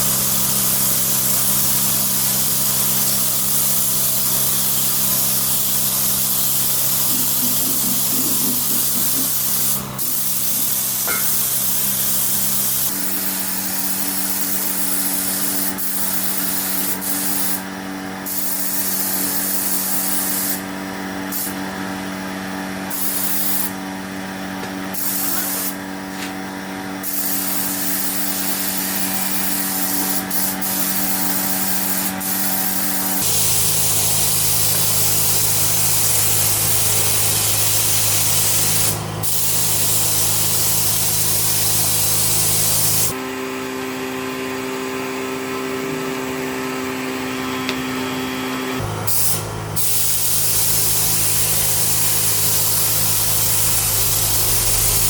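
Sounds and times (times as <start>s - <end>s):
air spray gun hissing: 0.0s - 21.7s, 22.9s - 23.8s, 24.8s - 26.4s, 27.0s - 43.2s, 48.8s - 55.0s
air compressor motor hum: 0.0s - 55.0s.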